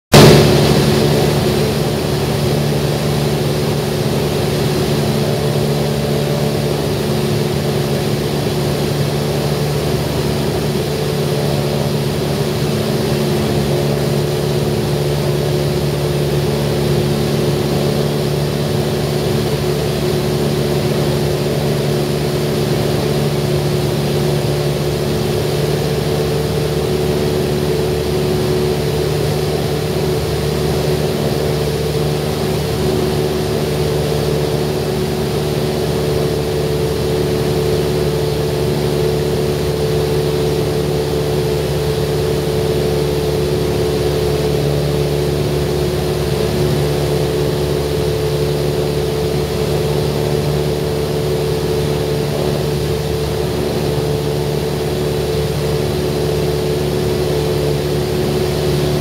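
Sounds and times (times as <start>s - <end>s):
airplane engine drone: 0.1s - 59.0s.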